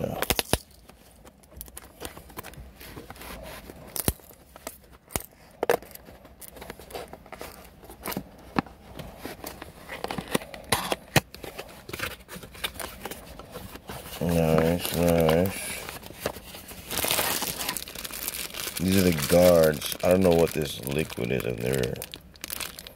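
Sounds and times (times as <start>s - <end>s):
packaging crinkling and tearing: 0.0s - 22.9s.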